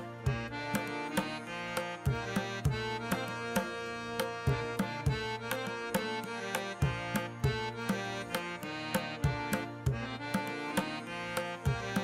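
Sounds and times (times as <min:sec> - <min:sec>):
drum strokes in steady rhythm: 0:00.0 - 0:12.0
sustained melodic tones: 0:00.0 - 0:12.0.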